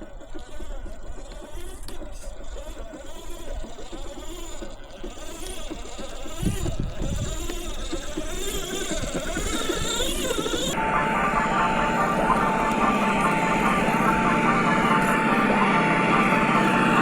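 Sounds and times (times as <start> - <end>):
simulated engine from small speaker: 0.0 - 17.0.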